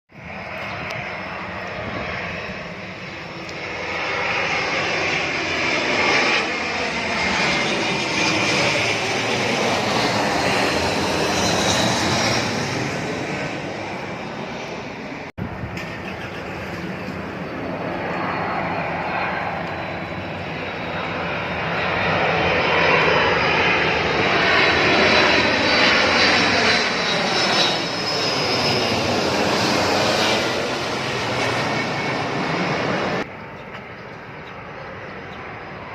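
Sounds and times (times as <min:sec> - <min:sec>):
airplane engine roar overhead: 0:00.1 - 0:35.9.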